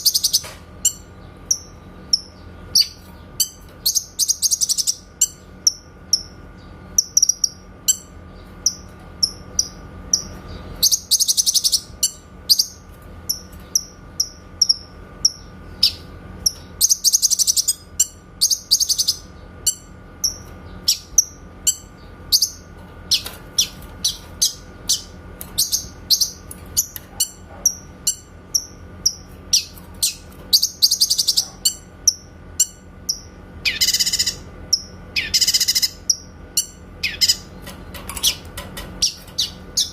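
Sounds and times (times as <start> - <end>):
bird singing high-pitched notes: 0.0 - 37.5.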